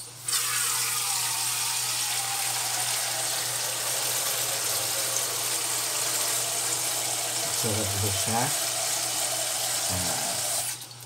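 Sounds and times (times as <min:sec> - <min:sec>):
tap water spraying into metal pot: 0:00.0 - 0:11.0.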